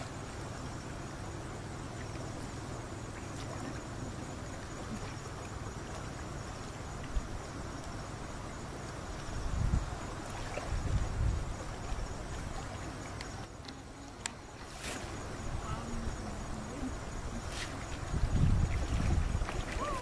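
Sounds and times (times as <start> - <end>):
faint insect chirping: 0.0 - 20.0
steady noisy hiss: 0.0 - 20.0.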